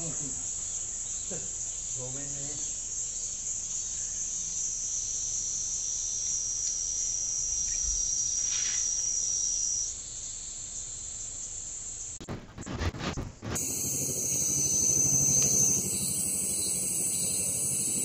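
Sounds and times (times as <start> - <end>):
cicadas buzzing: 0.0 - 12.2, 13.5 - 18.0.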